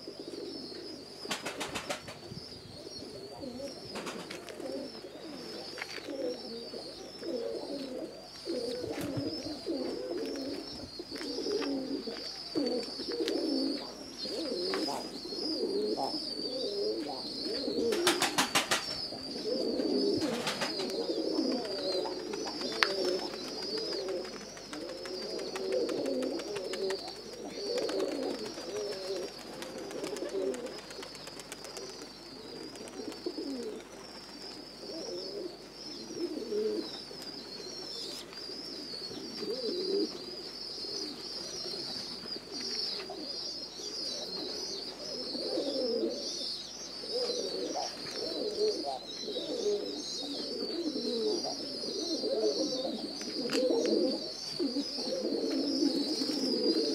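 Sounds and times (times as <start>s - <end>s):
pigeons cooing: 0.0s - 56.9s.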